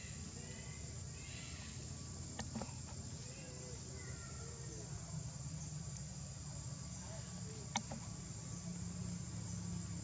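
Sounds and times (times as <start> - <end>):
faint chirps: 0.0 - 10.0
insects droning: 0.0 - 10.0.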